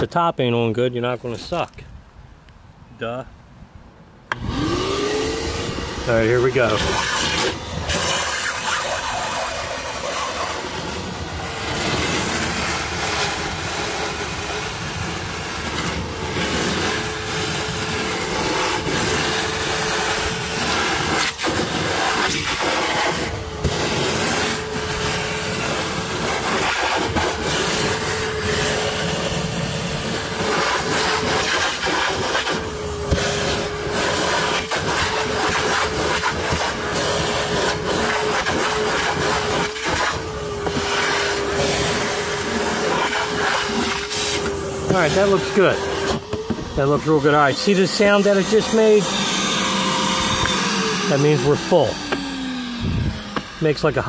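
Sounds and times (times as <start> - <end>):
shop vac sucking water: 4.3 - 54.0.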